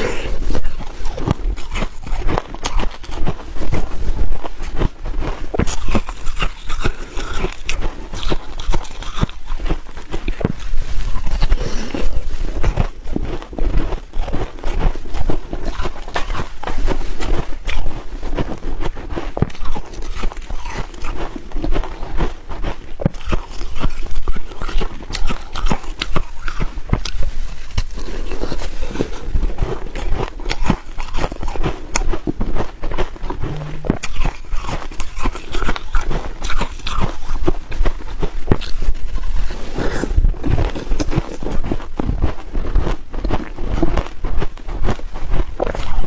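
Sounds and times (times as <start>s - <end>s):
person crunching frozen ice: 0.0s - 46.0s.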